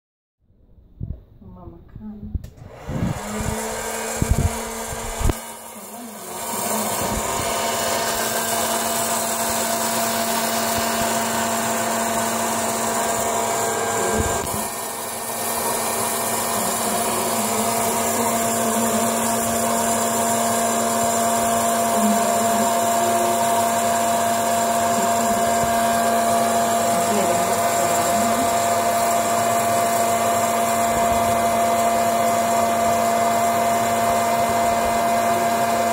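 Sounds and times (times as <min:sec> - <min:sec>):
popcorn popper fan humming: 0:02.5 - 0:35.9.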